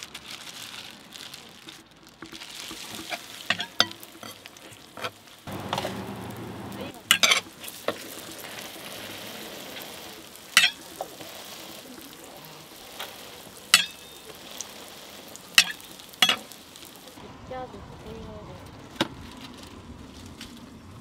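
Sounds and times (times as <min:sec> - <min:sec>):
food sizzling in oil: 0:00.2 - 0:17.2.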